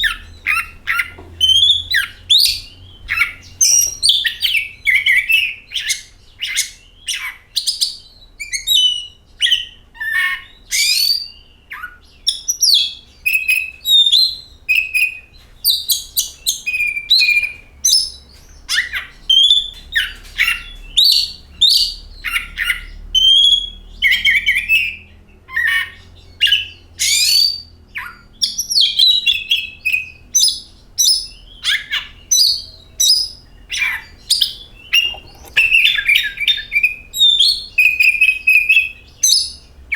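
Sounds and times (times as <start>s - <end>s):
songbird whistling and chattering: 0.0s - 39.8s.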